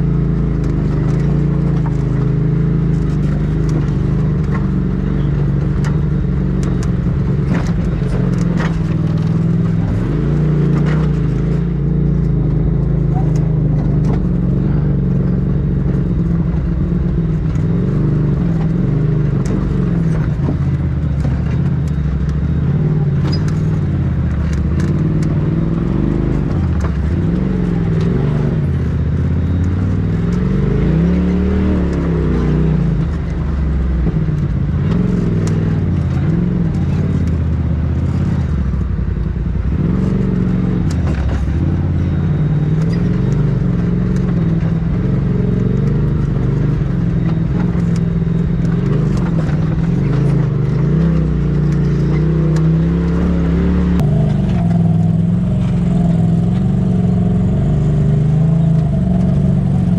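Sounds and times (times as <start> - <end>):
off-road vehicle engine running: 0.0 - 59.9
vehicle rattling over rocks: 0.0 - 59.9.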